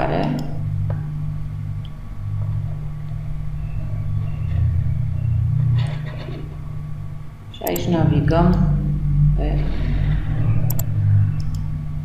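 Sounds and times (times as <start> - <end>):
deep rumble: 0.0 - 12.0
steady low hum: 0.0 - 12.0.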